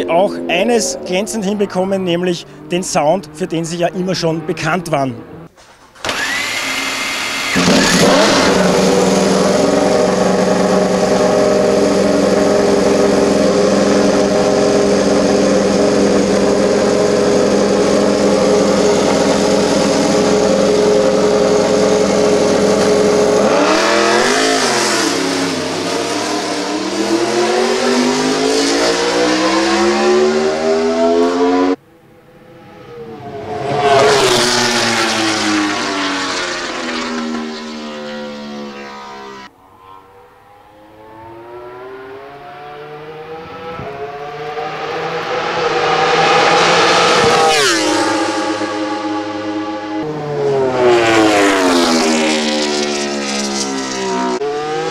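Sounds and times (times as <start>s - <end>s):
racing motorcycle engine revving: 6.1s - 54.9s
motorcycle passing at speed: 6.2s - 54.9s.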